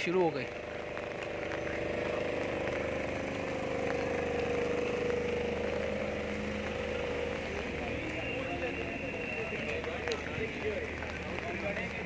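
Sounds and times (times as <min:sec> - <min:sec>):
rain hissing on wet pavement: 0:00.0 - 0:12.0
vehicle engine humming: 0:00.0 - 0:12.0.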